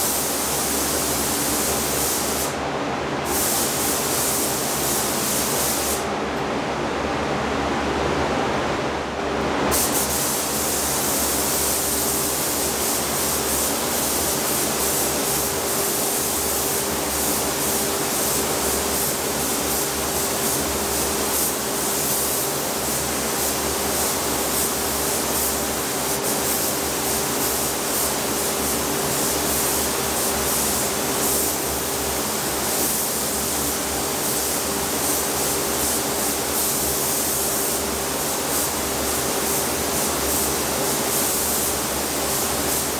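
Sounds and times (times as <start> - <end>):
spray gun hissing: 0.0 - 2.6, 3.3 - 6.1, 9.7 - 42.9.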